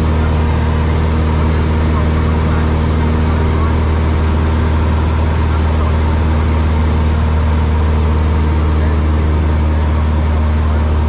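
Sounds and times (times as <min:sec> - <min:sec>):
light aircraft engine and propeller: 0:00.0 - 0:11.0.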